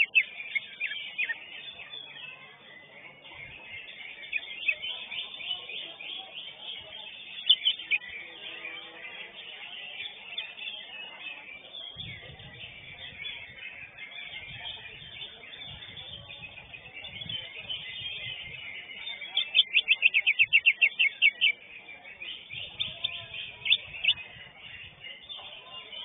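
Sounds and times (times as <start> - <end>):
bird chattering twitter: 0.0 - 25.6.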